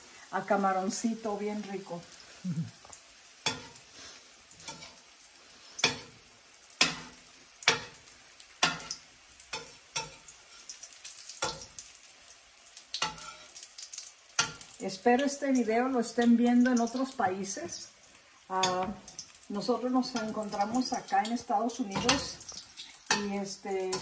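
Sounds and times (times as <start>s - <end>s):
food sizzling in oil: 0.0s - 24.0s
metal spatula in pan: 3.3s - 17.1s, 18.5s - 24.0s.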